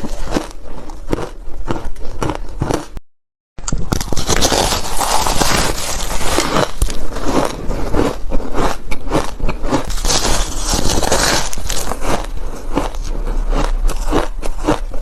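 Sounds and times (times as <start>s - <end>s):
chewing hard ice: 0.0s - 3.0s, 3.6s - 15.0s.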